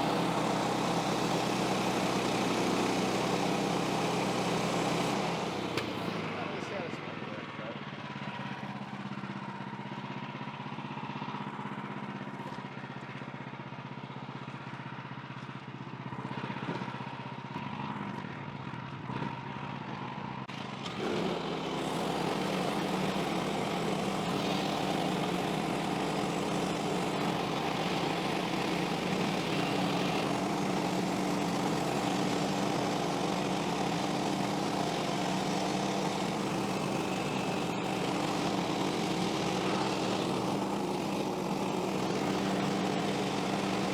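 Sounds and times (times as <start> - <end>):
small gasoline engine running: 0.0 - 43.9.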